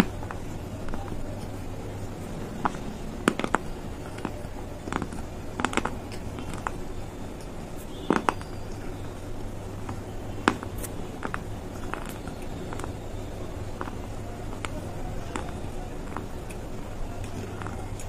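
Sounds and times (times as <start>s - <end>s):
chewing crunchy clay: 0.0s - 9.2s, 9.8s - 18.0s
low steady hum: 0.0s - 18.0s.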